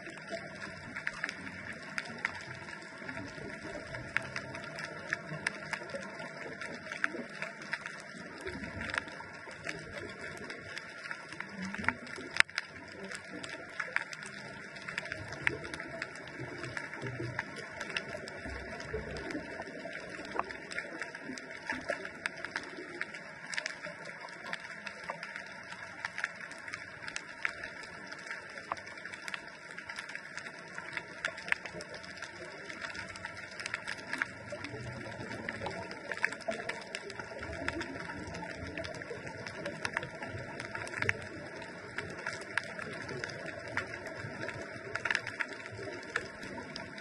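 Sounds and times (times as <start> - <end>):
sharp clicks and crackles: 0.0 - 47.0.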